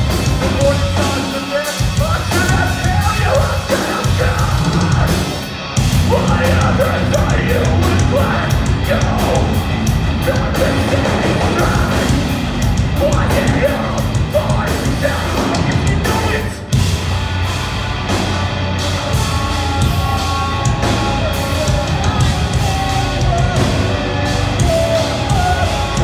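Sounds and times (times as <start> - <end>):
metal band playing live: 0.0 - 26.0.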